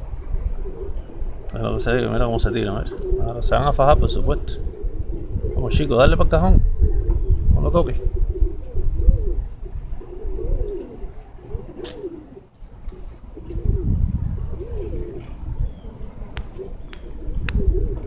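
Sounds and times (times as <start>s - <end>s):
low rumbling noise: 0.0s - 18.0s
pigeons cooing: 0.0s - 18.0s.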